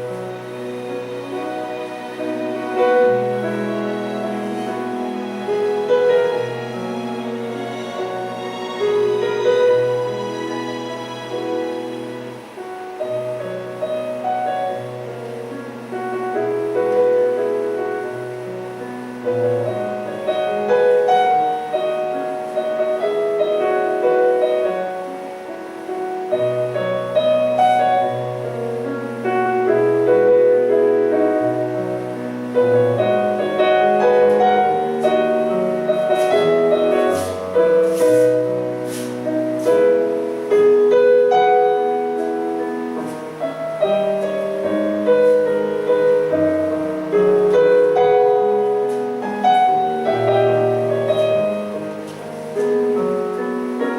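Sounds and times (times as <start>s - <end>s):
slow gentle piano music: 0.0s - 53.9s.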